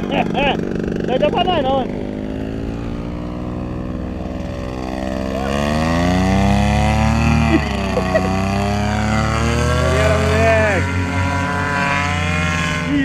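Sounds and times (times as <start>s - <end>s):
paramotor engine revving: 0.0s - 13.0s.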